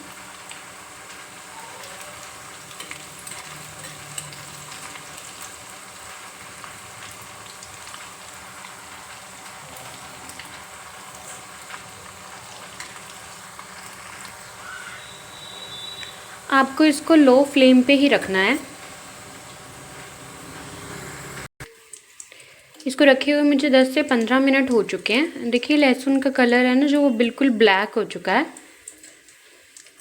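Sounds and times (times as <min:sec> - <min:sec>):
garlic sizzling in hot oil: 0:00.0 - 0:30.0.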